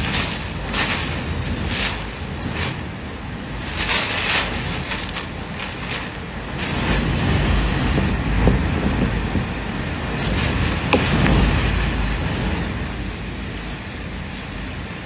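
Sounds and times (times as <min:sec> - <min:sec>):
driving rain: 0:00.0 - 0:15.0
strong wind gusts: 0:00.0 - 0:15.0
wind buffeting microphone: 0:00.0 - 0:15.0.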